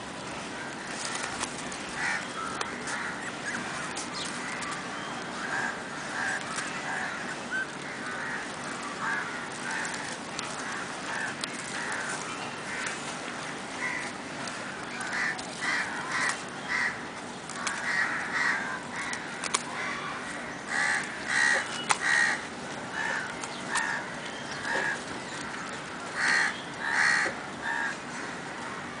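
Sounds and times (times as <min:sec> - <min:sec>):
crows cawing: 0:00.6 - 0:29.0.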